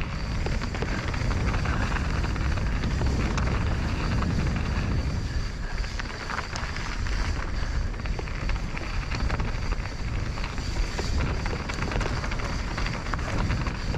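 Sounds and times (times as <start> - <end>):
bike clicks and rattles: 0.0 - 13.9
bike tyres on dirt trail: 0.0 - 13.9
wind rumbling on microphone: 0.0 - 13.9.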